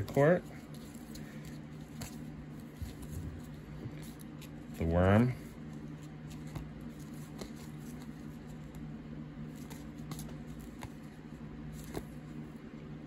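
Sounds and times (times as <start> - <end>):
cards flipping: 0.0 - 12.4
steady low hum: 0.0 - 13.0.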